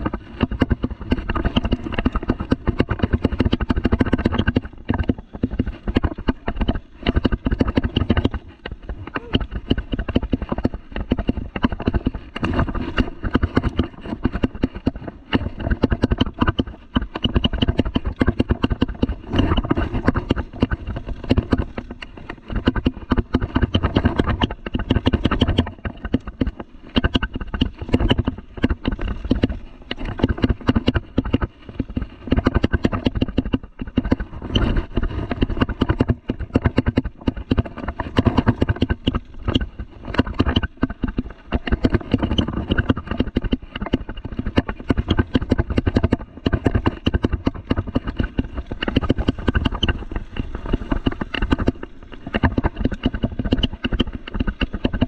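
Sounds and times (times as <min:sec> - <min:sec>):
mountain bike rattling on trail: 0:00.0 - 0:55.0.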